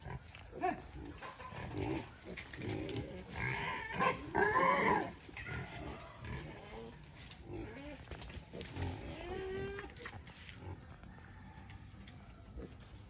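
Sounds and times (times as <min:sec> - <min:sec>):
pig squealing: 0:00.0 - 0:10.8
pigs grunting: 0:00.0 - 0:11.0.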